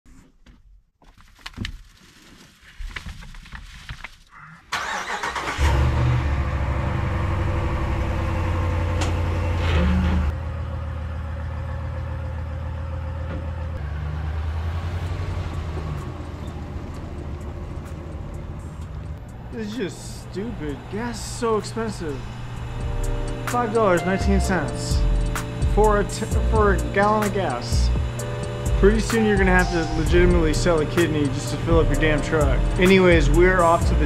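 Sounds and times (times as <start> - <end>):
truck engine starting and idling: 4.7 - 34.0.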